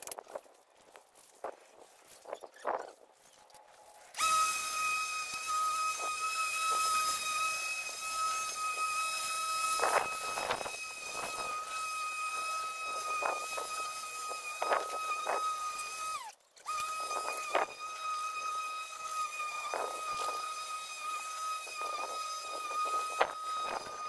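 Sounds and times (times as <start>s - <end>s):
electric lawnmower whine: 4.0s - 24.0s
mower cutting rushes: 4.1s - 24.0s.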